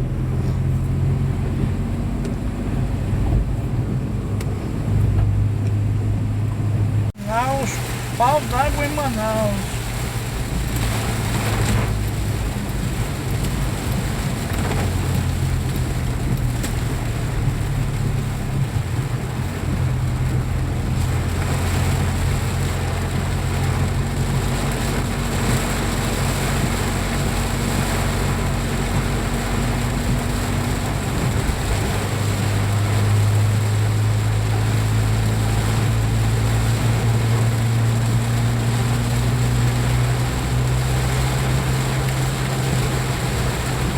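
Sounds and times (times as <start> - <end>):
road noise rush: 0.0 - 43.9
vehicle engine hum: 0.0 - 43.9.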